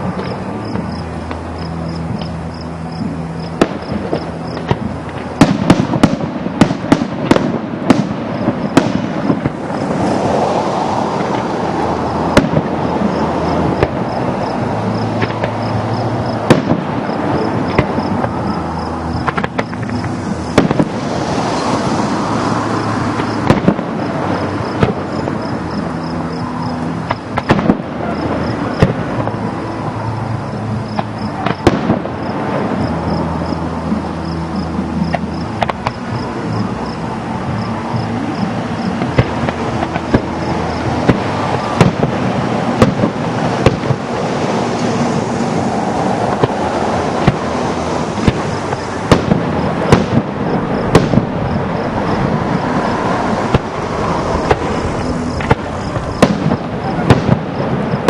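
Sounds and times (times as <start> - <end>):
firework bangs: 0.0 - 30.1, 30.8 - 58.0
crackling firework bursts: 0.0 - 58.0.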